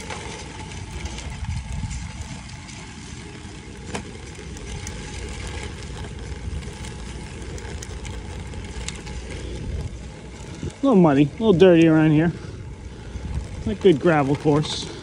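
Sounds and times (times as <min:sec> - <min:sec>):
bike tyres on gravel: 0:00.0 - 0:15.0
wind rumbling on microphone: 0:00.0 - 0:15.0.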